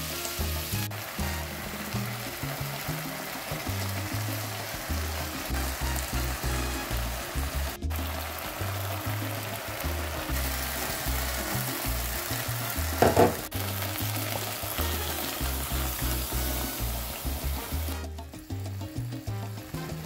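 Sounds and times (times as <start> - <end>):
background music bass line: 0.0 - 20.0
sauce sizzling in wok: 0.0 - 20.0.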